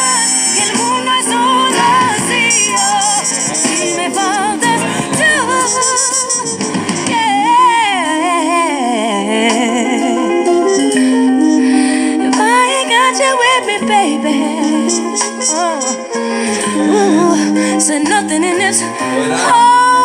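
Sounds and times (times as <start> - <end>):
song with person singing: 0.0 - 20.0.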